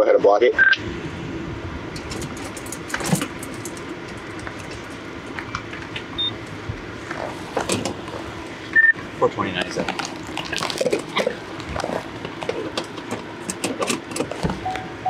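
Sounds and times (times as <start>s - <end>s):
car engine running: 0.8s - 15.0s.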